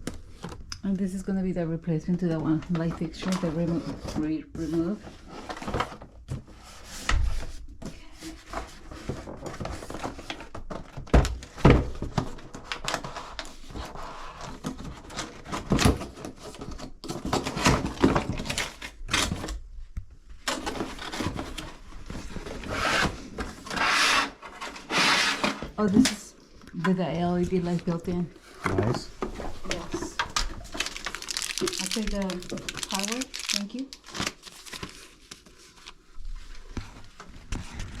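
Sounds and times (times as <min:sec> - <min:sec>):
cardboard and packing rustling: 0:02.2 - 0:26.2, 0:27.2 - 0:38.0.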